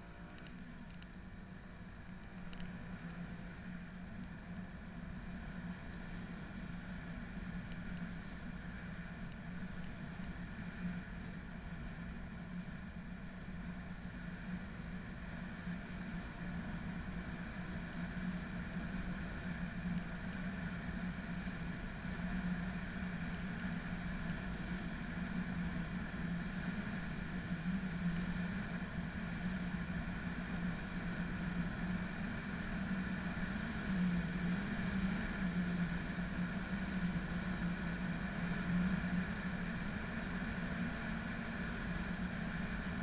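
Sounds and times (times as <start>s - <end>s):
wind and road noise: 0.0s - 43.0s.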